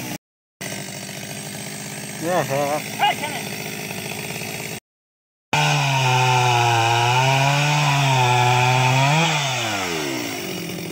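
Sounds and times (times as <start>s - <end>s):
chainsaw cutting log: 0.0s - 4.8s, 5.6s - 10.9s.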